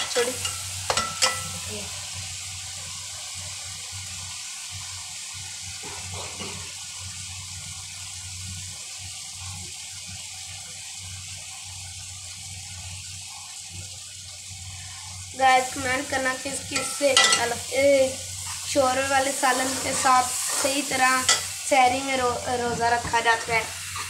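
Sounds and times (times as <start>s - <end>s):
curry sizzling in a pot: 0.0s - 24.0s.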